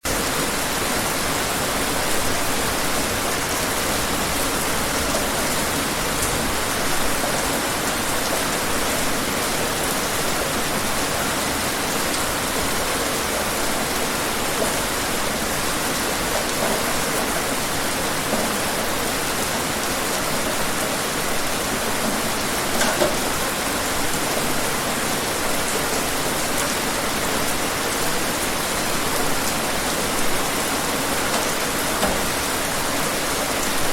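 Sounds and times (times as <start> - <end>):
steady rainfall: 0.0 - 33.9.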